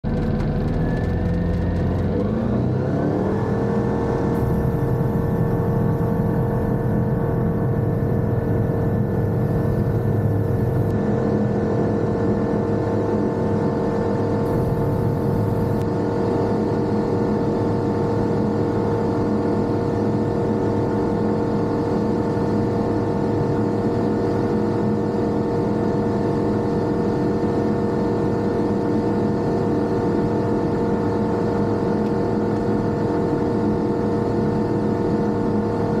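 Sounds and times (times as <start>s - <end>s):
aircraft piston engine and propeller: 0.0s - 36.0s.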